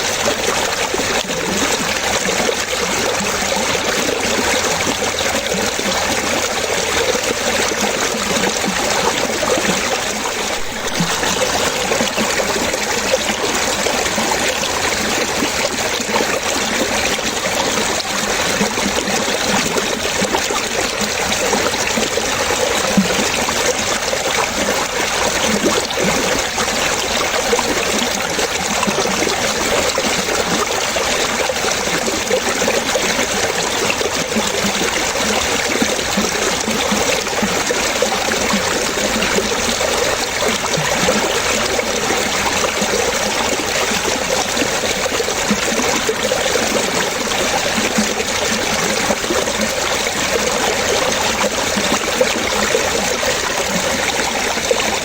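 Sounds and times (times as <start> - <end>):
running water splashing: 0.0 - 55.0.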